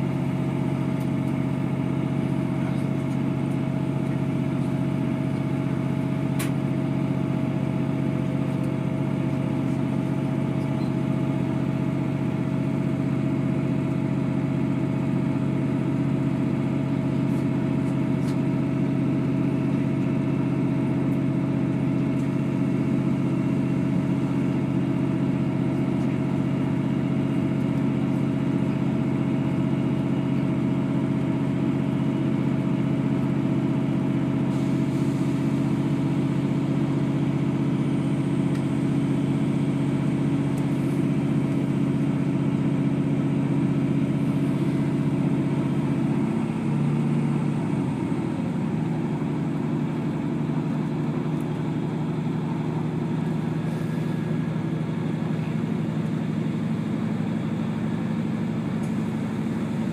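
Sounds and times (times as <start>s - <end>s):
train diesel engine droning: 0.0s - 59.9s.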